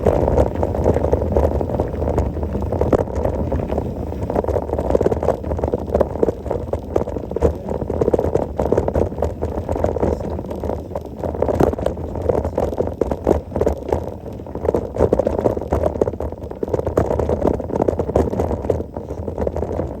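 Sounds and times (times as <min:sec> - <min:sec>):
bike rattling over bumps: 0:00.0 - 0:20.0
bike tyres crunching on grit: 0:00.0 - 0:20.0.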